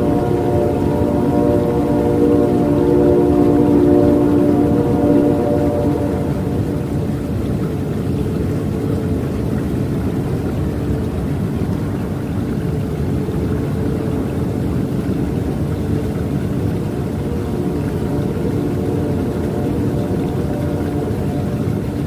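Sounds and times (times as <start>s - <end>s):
distant train horn: 0.0s - 22.0s
rushing water: 0.0s - 22.0s.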